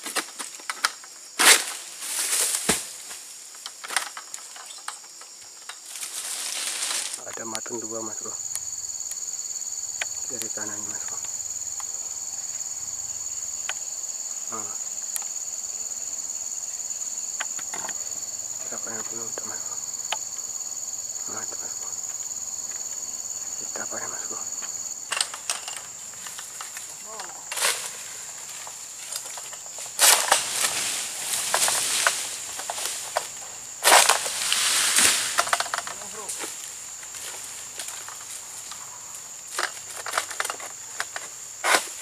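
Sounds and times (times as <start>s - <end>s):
fronds crackling and rustling: 0.0s - 20.5s, 21.3s - 42.0s
shrill insect chorus: 0.0s - 42.0s.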